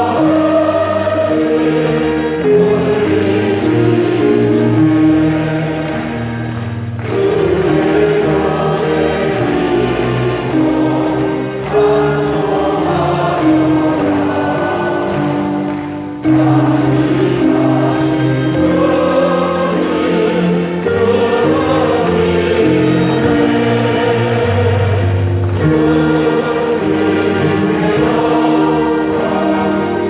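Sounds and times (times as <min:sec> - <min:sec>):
congregation singing a hymn: 0:00.0 - 0:30.0.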